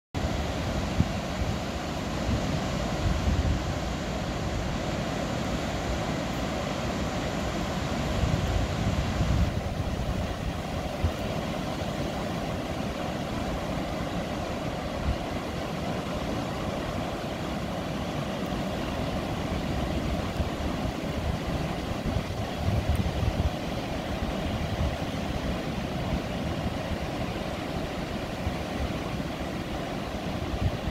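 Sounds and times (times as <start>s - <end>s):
ocean surf breaking: 0.2s - 30.9s
wind buffeting microphone: 0.2s - 30.9s.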